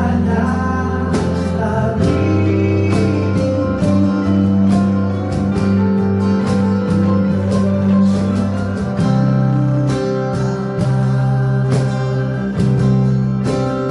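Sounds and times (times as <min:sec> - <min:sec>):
strummed guitar: 0:00.0 - 0:13.9
sustained chords: 0:00.0 - 0:13.9
steady beat: 0:01.2 - 0:13.9.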